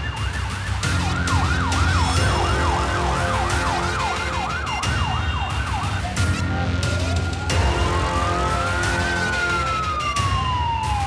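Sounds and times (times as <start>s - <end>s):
siren yelping: 0.0s - 11.0s.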